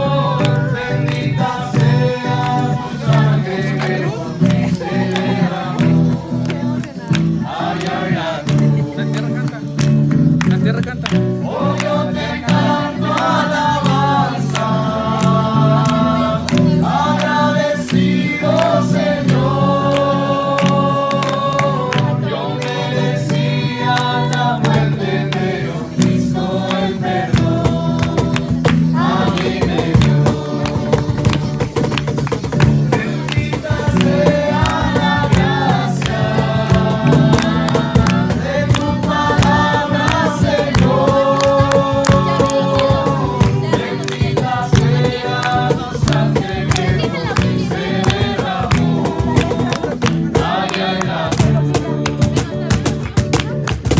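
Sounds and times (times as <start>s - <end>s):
group singing worship song: 0.0s - 9.6s, 11.3s - 52.7s
instrumental accompaniment: 0.0s - 53.9s.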